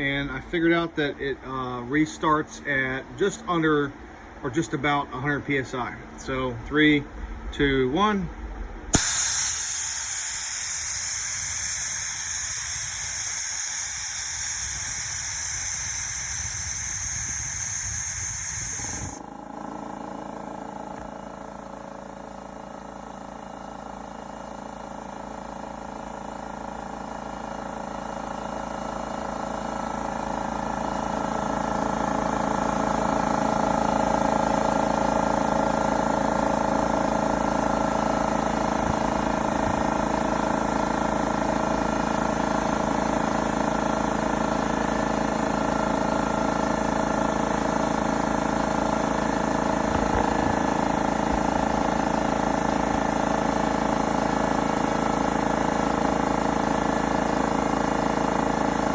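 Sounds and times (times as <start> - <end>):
air compressor running: 8.8 - 58.9.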